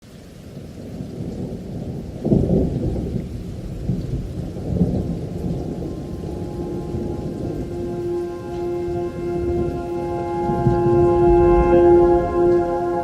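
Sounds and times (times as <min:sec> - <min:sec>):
steady rain: 0:00.0 - 0:13.0
thunder rumbling: 0:00.5 - 0:13.0.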